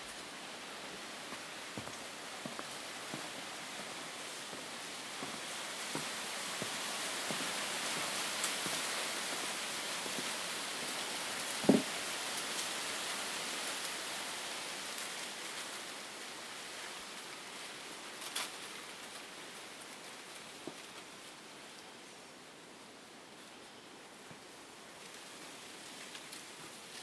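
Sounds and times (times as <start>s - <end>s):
forest rustling hiss: 0.0s - 27.0s.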